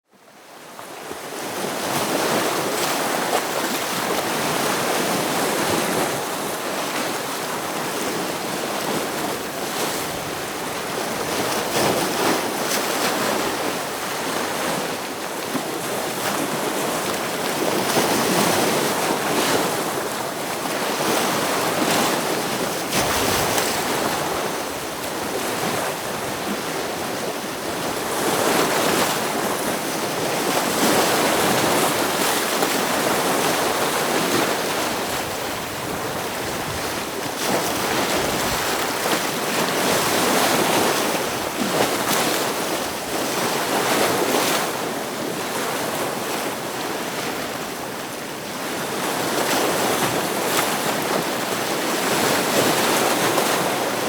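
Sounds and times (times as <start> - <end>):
ocean waves breaking on rocks: 1.0 - 54.0.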